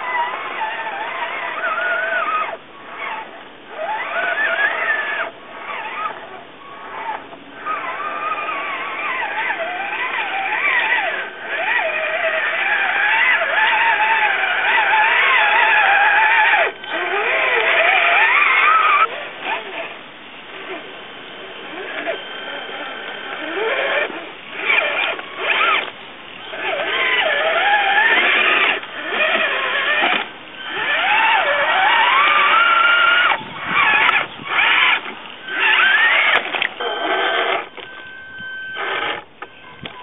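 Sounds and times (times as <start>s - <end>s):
electric motors whining: 0.0s - 40.0s.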